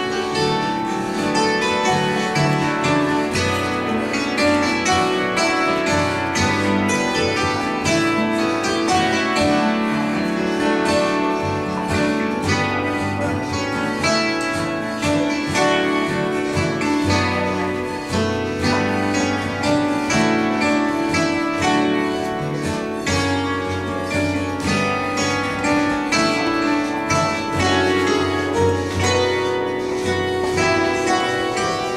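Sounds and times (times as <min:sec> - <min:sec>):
plucked string instruments: 0:00.0 - 0:31.9.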